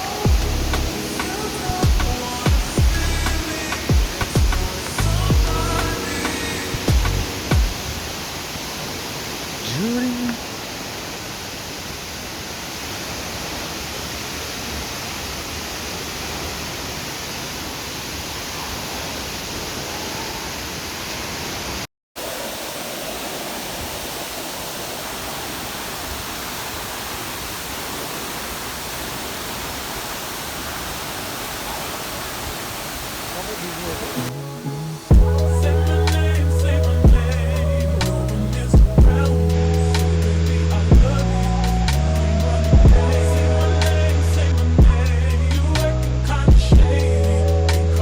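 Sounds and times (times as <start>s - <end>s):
waterfall rushing: 0.0s - 46.5s.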